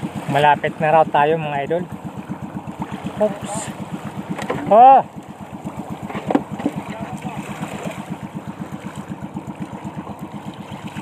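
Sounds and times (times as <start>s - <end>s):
boat engine puttering: 0.0s - 11.0s.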